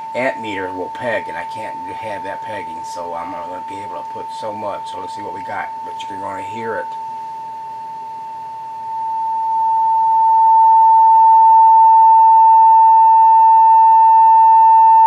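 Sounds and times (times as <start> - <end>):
steady test tone from loudspeaker: 0.0 - 15.0.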